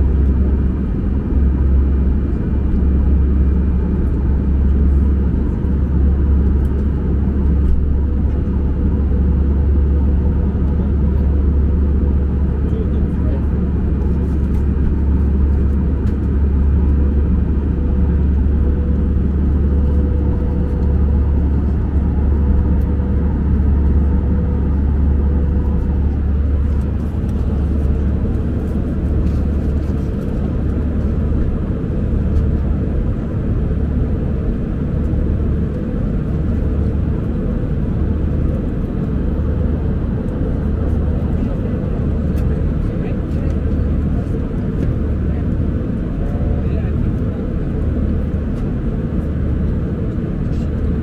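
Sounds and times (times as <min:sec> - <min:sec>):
jet engines and airflow rumble: 0:00.0 - 0:51.0.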